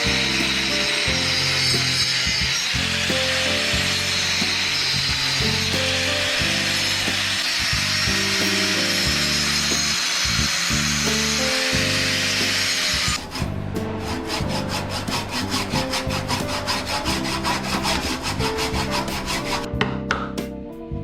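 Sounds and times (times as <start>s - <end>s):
continuous cutting of wood: 0.0s - 19.7s
rapid sawing strokes: 0.0s - 19.7s.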